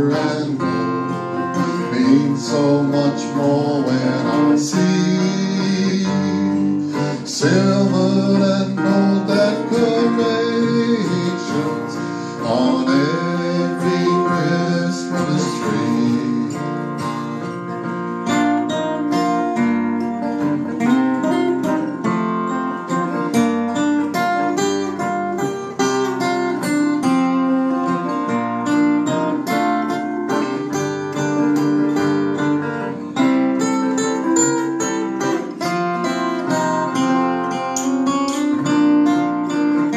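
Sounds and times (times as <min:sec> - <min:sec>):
acoustic guitars playing: 0:00.0 - 0:39.9.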